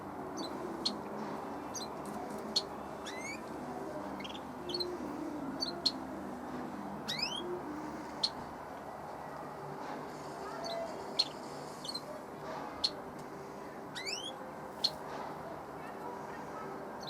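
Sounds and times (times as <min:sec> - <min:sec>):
birds chirping: 0:00.0 - 0:09.6, 0:10.2 - 0:15.1.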